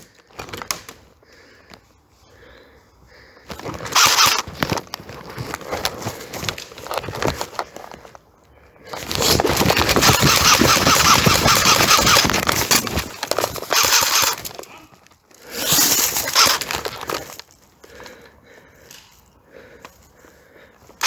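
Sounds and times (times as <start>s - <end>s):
crunching of dry leaves and twigs: 0.0s - 21.0s.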